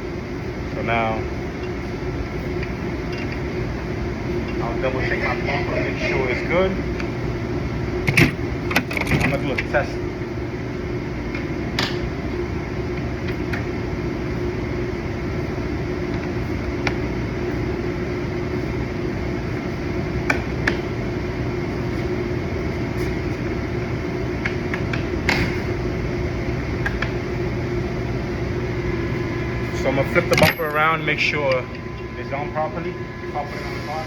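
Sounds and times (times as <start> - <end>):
fan-like mechanical hum: 0.0 - 34.0.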